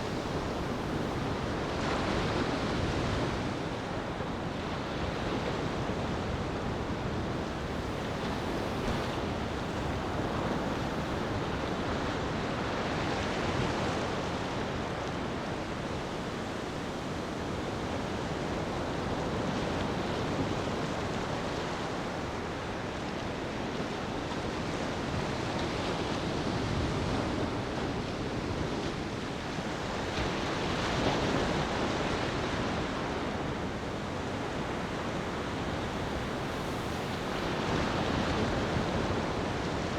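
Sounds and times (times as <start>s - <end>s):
gentle waves lapping on a beach: 0.0s - 39.9s.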